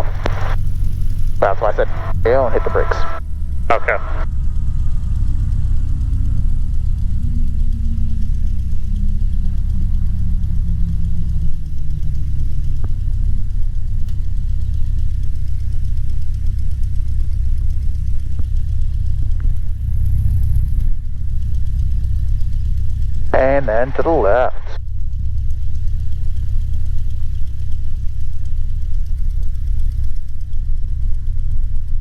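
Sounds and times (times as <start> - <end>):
small plane engine drone: 0.0 - 32.0.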